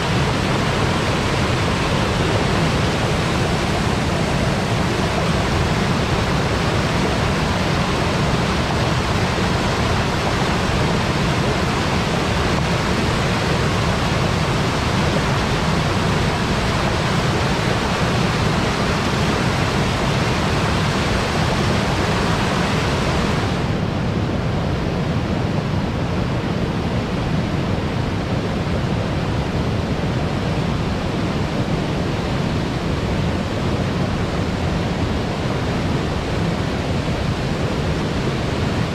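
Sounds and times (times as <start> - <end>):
water rushing over a weir: 0.0 - 38.9.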